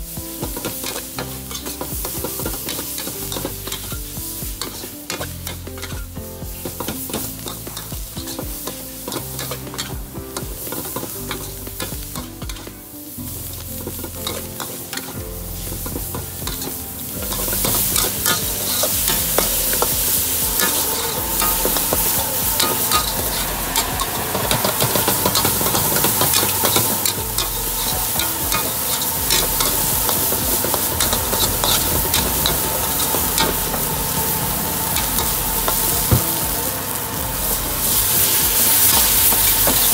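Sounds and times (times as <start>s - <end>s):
hot oil sizzling: 0.0s - 39.9s
metal spatula scraping wok: 0.6s - 3.9s, 4.6s - 39.9s.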